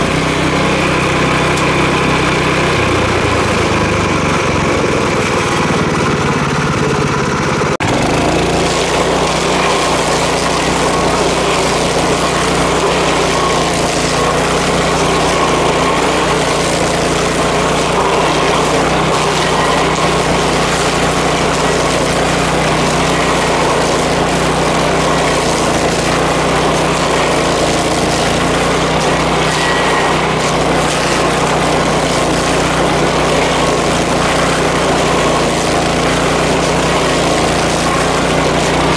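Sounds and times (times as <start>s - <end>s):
stump grinder running: 0.0s - 38.9s.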